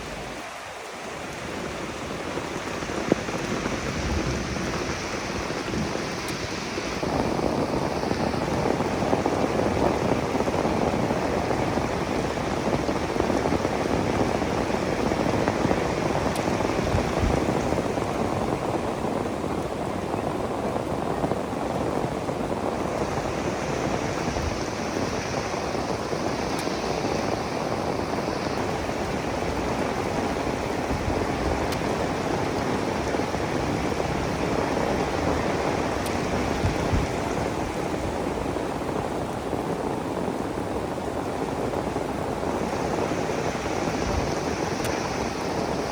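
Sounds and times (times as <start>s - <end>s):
brighter higher hiss: 0.0s - 45.9s
steady rain falling: 0.0s - 45.9s.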